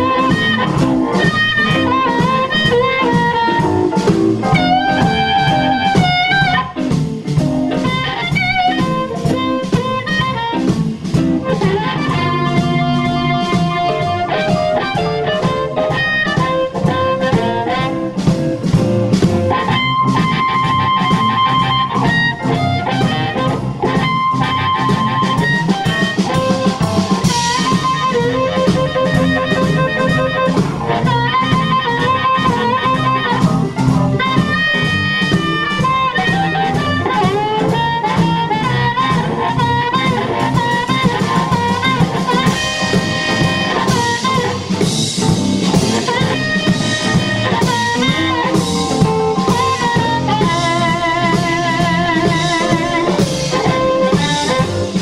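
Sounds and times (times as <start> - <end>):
harmonica bending notes: 0.0 - 55.0
live blues band: 0.0 - 55.0.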